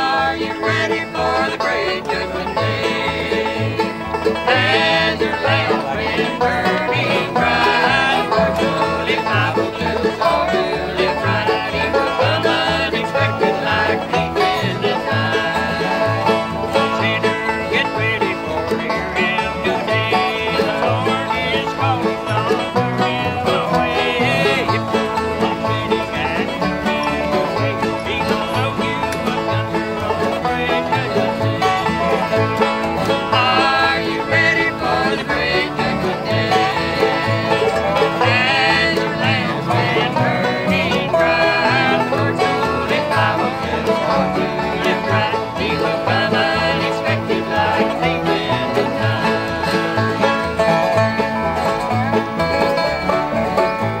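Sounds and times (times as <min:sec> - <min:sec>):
people singing: 0:00.0 - 0:51.8
banjo picking: 0:00.0 - 0:54.0
mandolin: 0:00.0 - 0:54.0
upright bass plucking: 0:00.0 - 0:54.0.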